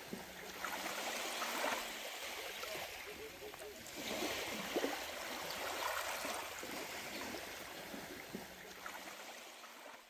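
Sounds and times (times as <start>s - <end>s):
water trickling and lapping: 0.0s - 10.0s.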